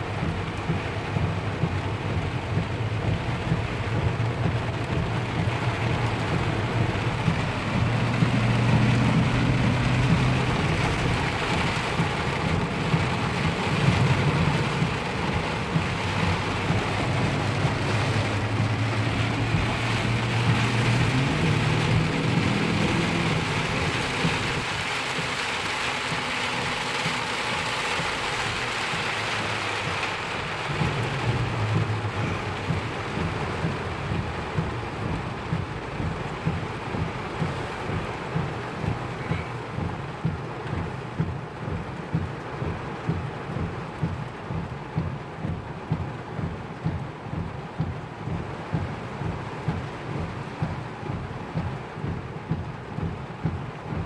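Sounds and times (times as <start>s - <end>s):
low rumble: 0.0s - 54.0s
steady rain falling: 0.0s - 54.0s.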